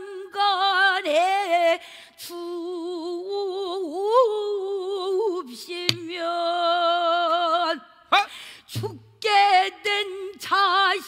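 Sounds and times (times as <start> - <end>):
woman singing with vibrato: 0.0 - 11.0.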